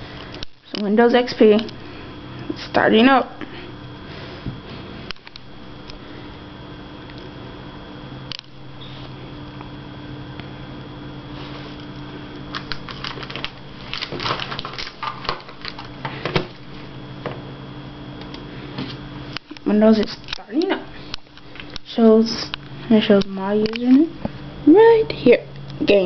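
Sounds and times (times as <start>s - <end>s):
faint high whine: 0.0s - 26.0s
low electrical hum: 0.0s - 26.0s.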